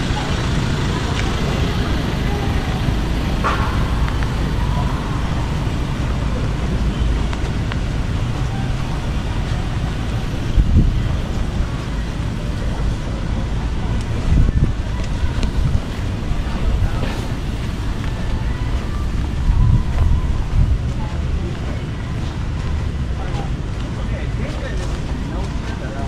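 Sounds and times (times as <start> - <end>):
low rumble of road traffic: 0.0 - 26.0.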